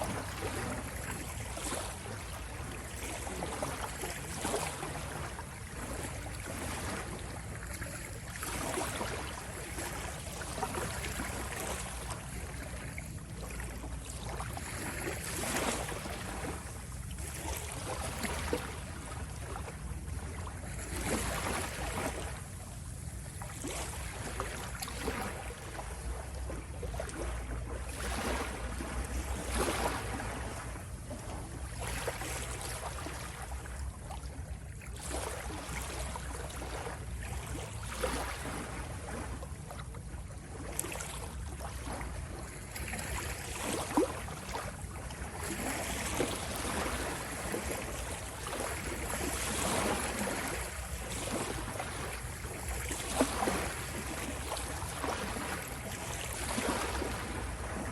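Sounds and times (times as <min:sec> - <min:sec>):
water waves splashing: 0:00.0 - 0:57.9.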